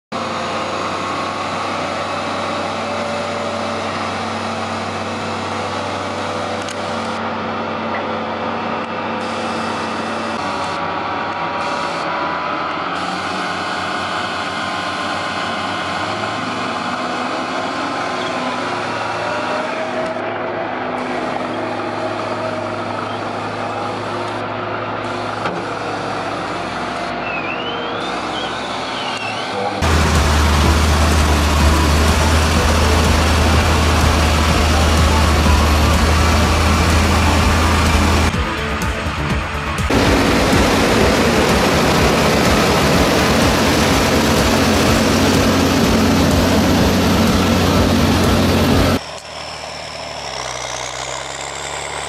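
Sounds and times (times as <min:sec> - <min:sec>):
tractor diesel engine running: 0:00.1 - 0:52.0.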